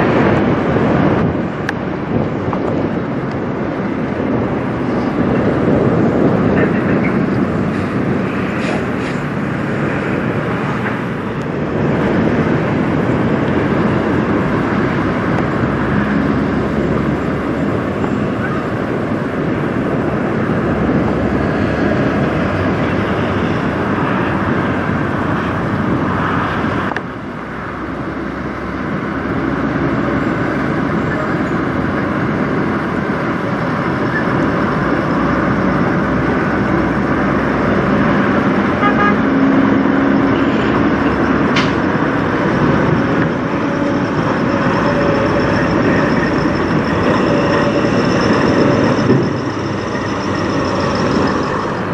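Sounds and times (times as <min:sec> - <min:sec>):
road traffic noise: 0:00.0 - 0:51.9
truck diesel engine running: 0:00.0 - 0:51.9.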